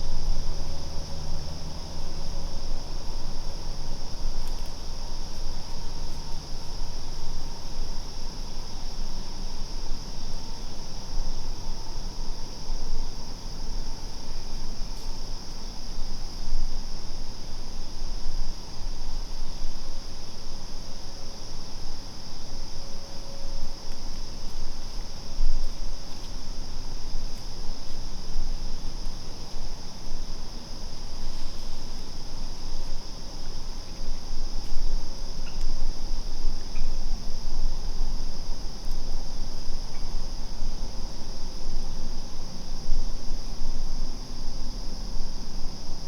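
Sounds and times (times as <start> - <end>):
crickets chirping: 0.0 - 46.0
insects chorus: 0.0 - 46.0.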